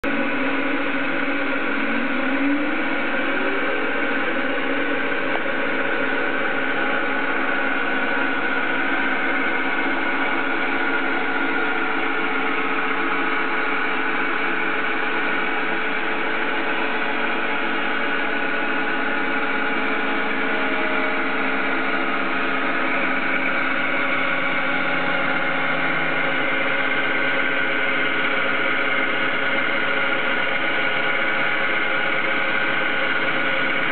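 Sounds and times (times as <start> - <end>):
lathe motor whine: 0.0 - 33.9.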